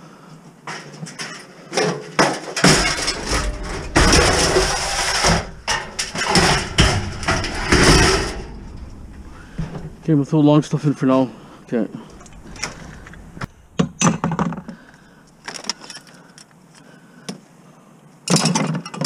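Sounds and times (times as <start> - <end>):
scrap metal clanking: 0.8 - 16.1.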